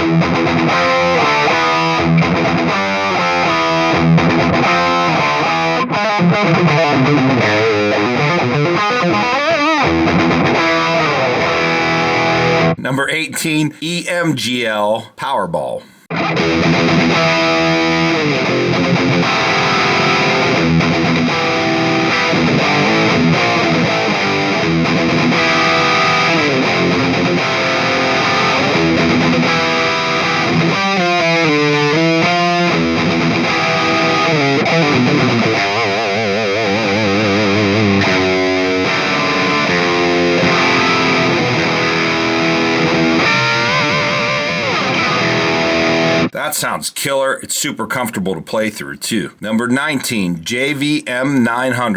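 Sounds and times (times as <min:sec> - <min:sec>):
distorted electric guitar riffs: 0:00.0 - 0:46.5.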